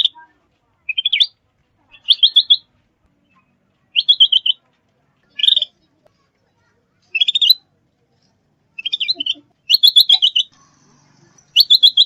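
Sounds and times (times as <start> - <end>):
songbird chirping: 0.0 - 6.2, 7.0 - 12.0.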